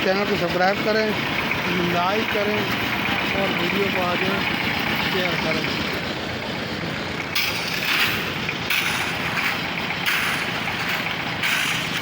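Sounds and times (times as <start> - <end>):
concrete mixer running: 0.0 - 12.0.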